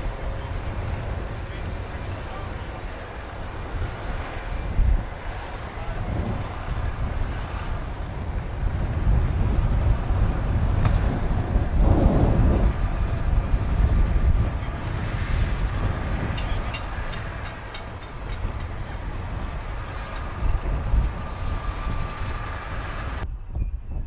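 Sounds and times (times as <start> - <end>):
tractor diesel engine under load: 0.0 - 23.2.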